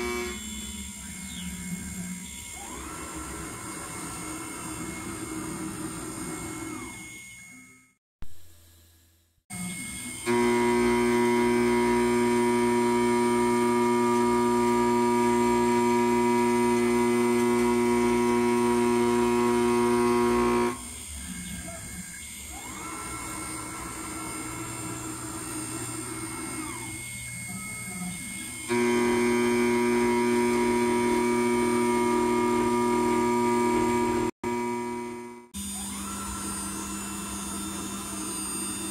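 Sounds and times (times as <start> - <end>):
spindle whine: 0.0 - 7.9, 9.6 - 38.9
faint motor whine: 0.0 - 8.0, 8.6 - 38.9.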